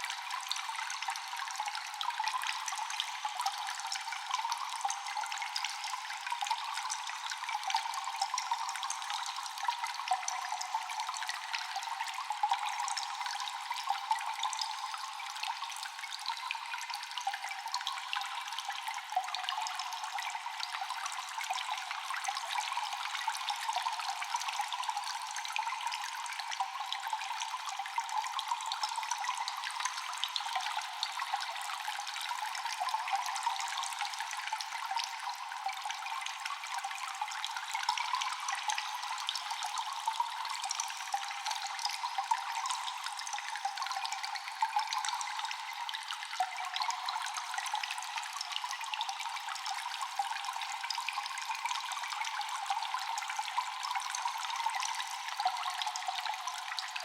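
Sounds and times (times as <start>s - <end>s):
water dripping in cave: 0.0s - 57.0s.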